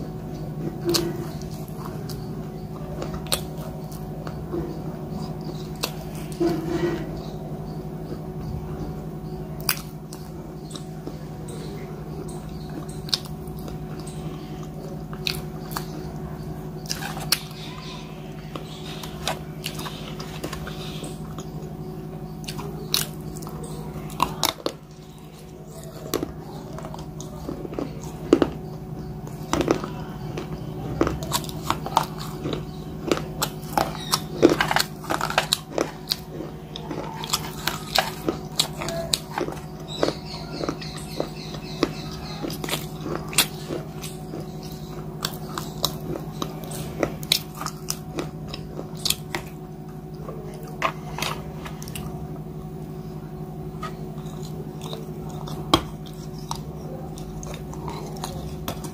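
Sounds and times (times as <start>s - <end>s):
crunching bites and chewing: 0.0s - 8.4s, 9.0s - 58.9s
steady low hum: 0.0s - 58.9s.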